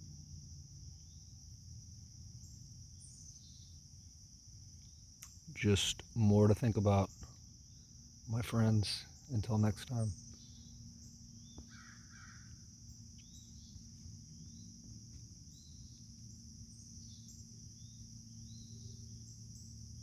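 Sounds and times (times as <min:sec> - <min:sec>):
insect chorus: 0:00.0 - 0:20.0
low steady hum: 0:00.0 - 0:20.0.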